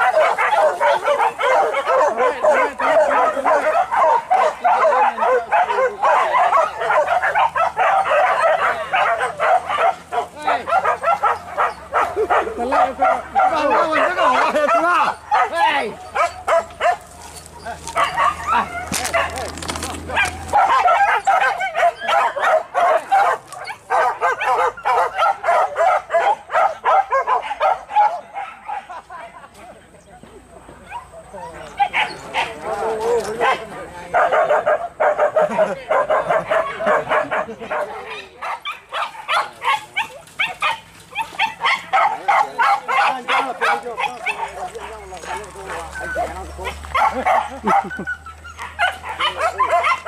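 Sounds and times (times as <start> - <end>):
dogs barking and yelping: 0.0 - 29.8, 30.5 - 50.0.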